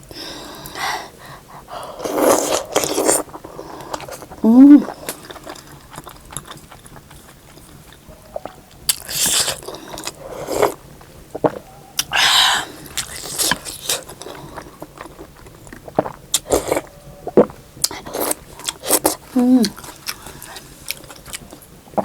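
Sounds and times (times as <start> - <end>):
person chewing food: 1.6 - 22.0.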